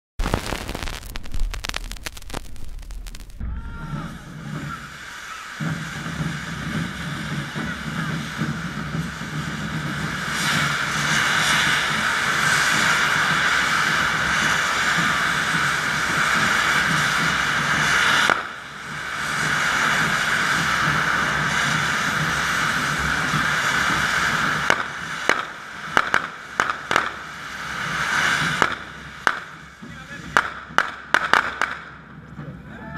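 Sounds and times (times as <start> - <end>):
sharp firework bangs: 0.2 - 32.1
firework fountains hissing: 0.2 - 32.9.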